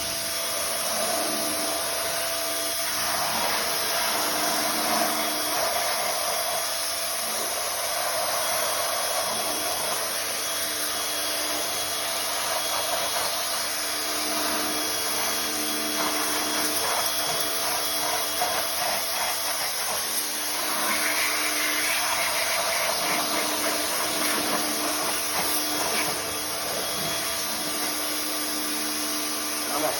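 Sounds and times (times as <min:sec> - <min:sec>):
pressure washer water rushing: 0:00.0 - 0:29.9.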